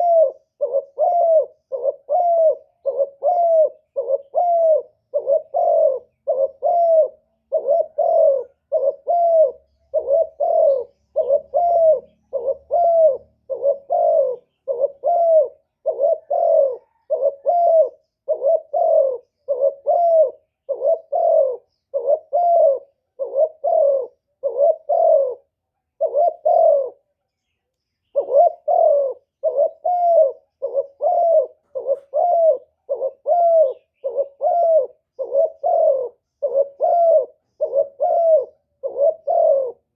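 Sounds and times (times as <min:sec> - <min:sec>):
dove cooing: 0:00.0 - 0:27.1, 0:28.0 - 0:39.9.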